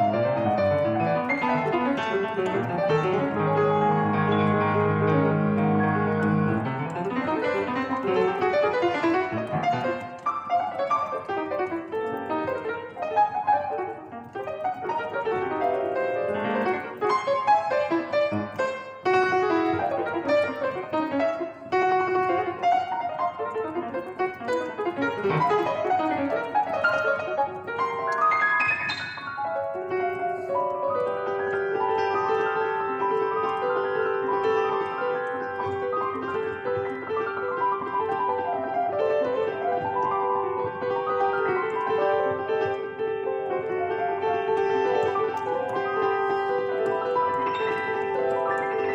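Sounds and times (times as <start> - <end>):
solo piano playing: 0.0 - 48.9.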